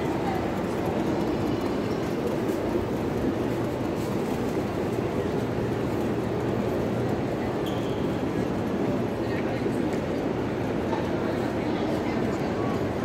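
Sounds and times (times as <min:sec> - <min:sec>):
people in echoing station hall: 0:00.0 - 0:13.0
rail traffic: 0:00.0 - 0:13.0.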